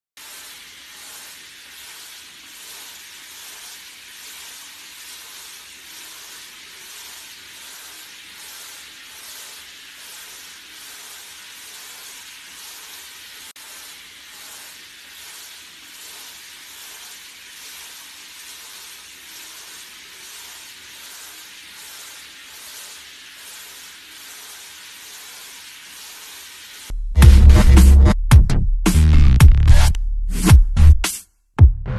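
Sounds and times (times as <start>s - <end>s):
shower head spraying water: 0.2s - 28.2s.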